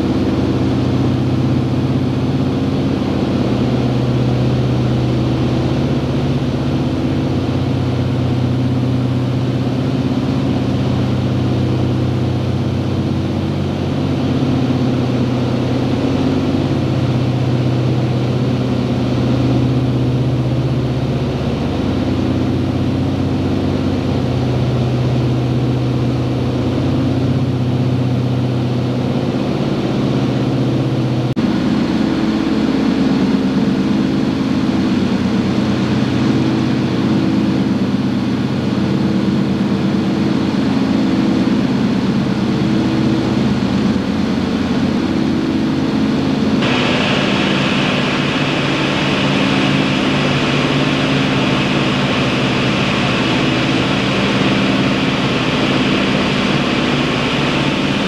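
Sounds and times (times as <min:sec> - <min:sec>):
propeller engines droning: 0:00.0 - 0:58.0.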